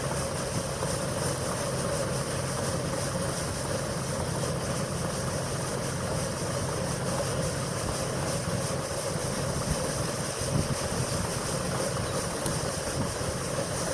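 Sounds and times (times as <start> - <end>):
combine harvester running: 0.0 - 13.9.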